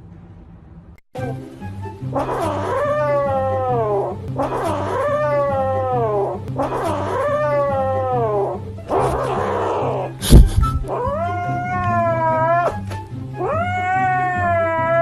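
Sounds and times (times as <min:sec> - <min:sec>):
background music: 0:00.0 - 0:15.0
cat yowling: 0:02.2 - 0:10.2, 0:10.8 - 0:15.0.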